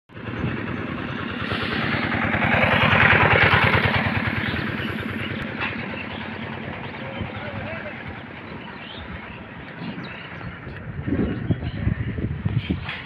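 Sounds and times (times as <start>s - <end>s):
motorcycle engine running: 0.1s - 12.5s.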